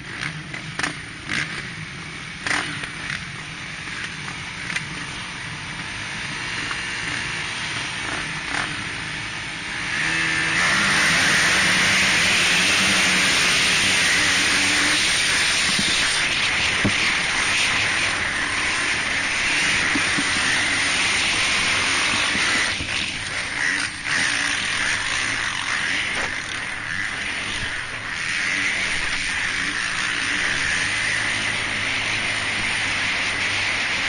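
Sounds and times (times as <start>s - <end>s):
motocross motorcycle engines: 0.0s - 34.0s.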